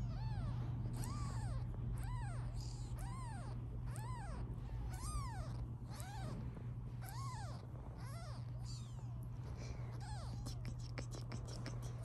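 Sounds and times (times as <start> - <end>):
kitten mewing: 0.0 - 6.4, 7.0 - 12.0
steady low hum: 0.0 - 12.0.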